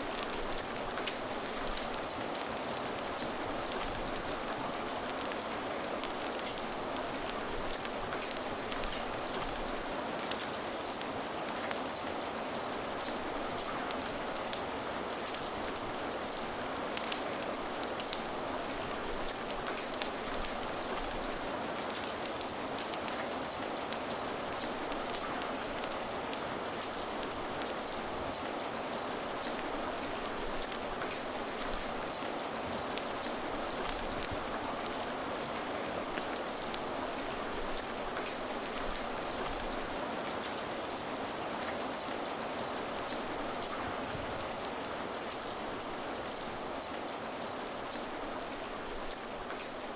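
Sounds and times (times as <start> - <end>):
raindrops ticking: 0.0 - 49.9.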